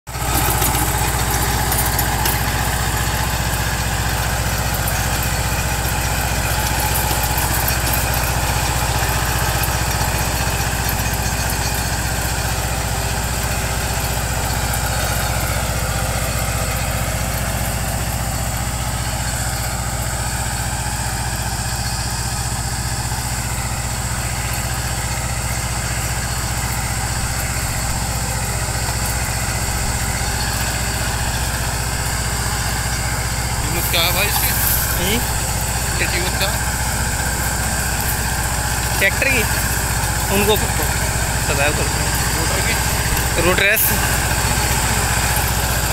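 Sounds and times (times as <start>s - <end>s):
tractor diesel engine running: 0.0s - 45.9s
rotavator tilling soil: 0.1s - 45.9s.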